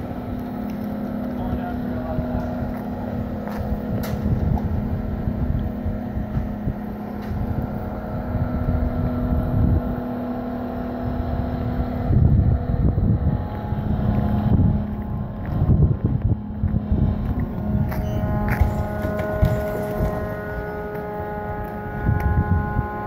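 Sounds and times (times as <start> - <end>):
mechanical hum: 0.0 - 23.0
wind buffeting microphone: 0.0 - 23.0.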